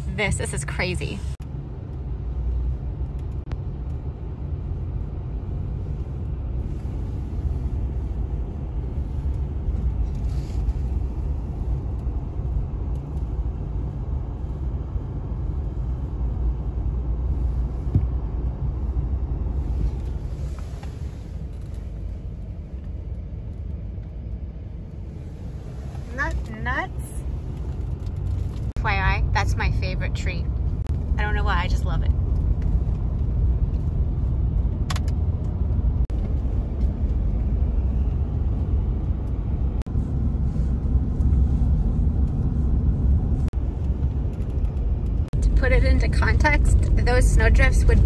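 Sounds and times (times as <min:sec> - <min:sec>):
vehicle engine and tyre rumble: 0:00.0 - 0:48.0.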